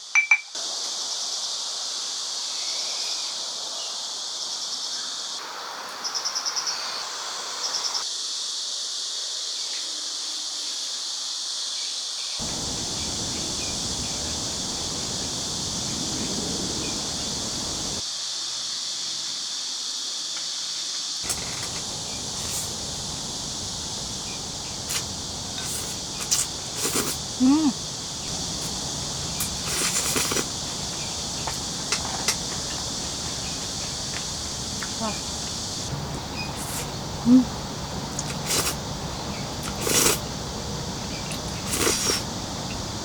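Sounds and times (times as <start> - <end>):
insects trilling: 0.6 - 43.0
rapid pulsing insect call: 0.6 - 43.0.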